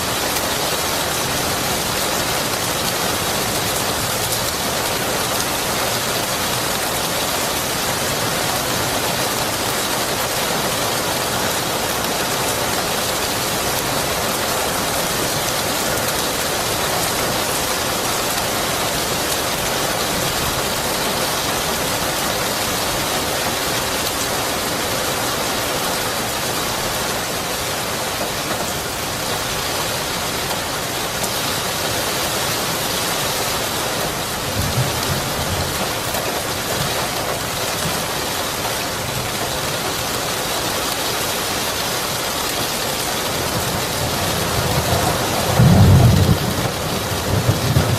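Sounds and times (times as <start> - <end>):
heavy rain on surfaces: 0.0 - 47.9.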